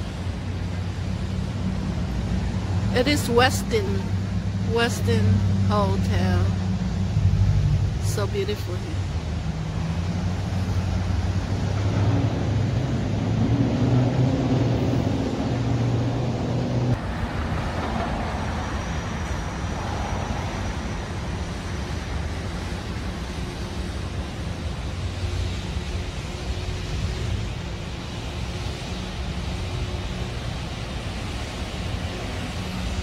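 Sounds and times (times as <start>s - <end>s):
traffic rumble: 0.0s - 33.0s
vehicle engine humming: 0.0s - 33.0s.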